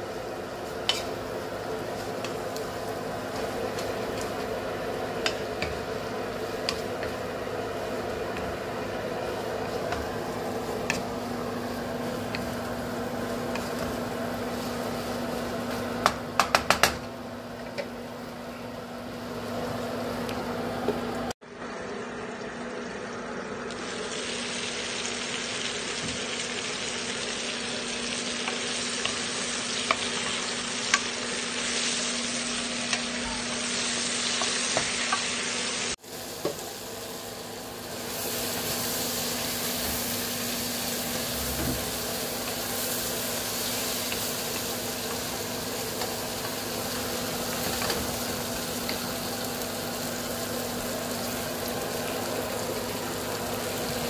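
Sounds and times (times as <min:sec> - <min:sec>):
vegetables frying in a pan: 0:00.0 - 0:54.0.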